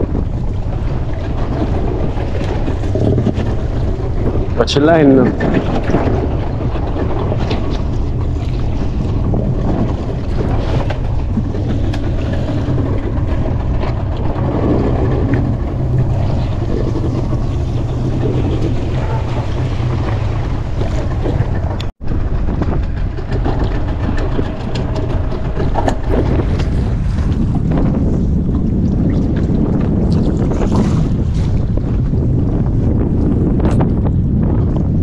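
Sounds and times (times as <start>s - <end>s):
strong wind buffeting microphone: 0.0s - 35.0s.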